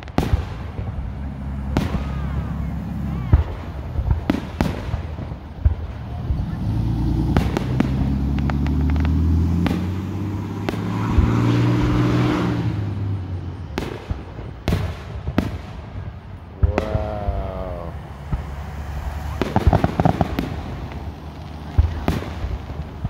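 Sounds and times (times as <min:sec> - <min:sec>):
fireworks bursting: 0:00.0 - 0:23.0
vehicle engine droning: 0:00.0 - 0:23.0.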